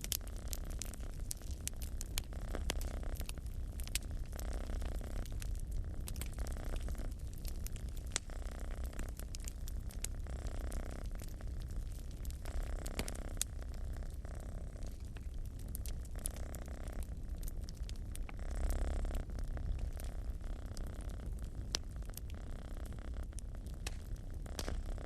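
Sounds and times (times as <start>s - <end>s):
cat purring: 0.0s - 25.0s
sharp pops from fire: 0.0s - 25.0s
wood fire crackling: 0.0s - 25.0s.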